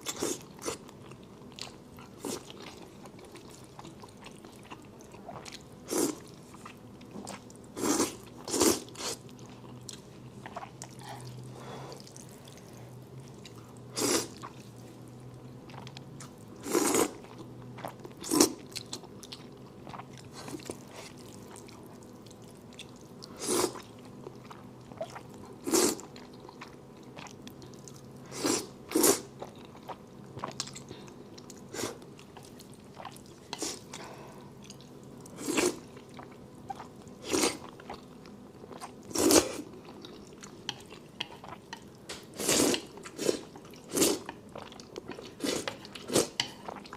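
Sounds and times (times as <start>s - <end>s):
person chewing noodles: 0.0s - 46.9s.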